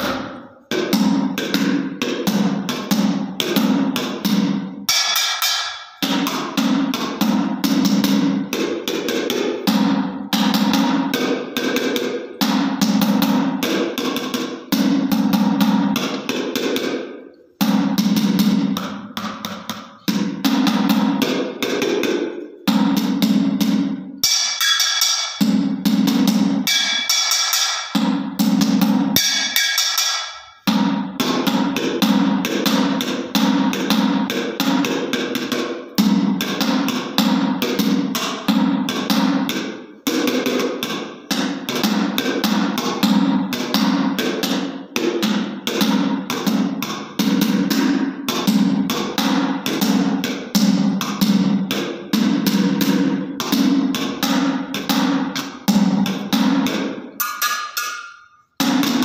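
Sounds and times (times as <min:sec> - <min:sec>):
spoons striking metal plate: 0:00.0 - 0:17.1, 0:17.7 - 0:59.0
spoons drumming on plastic buckets: 0:00.0 - 0:59.0.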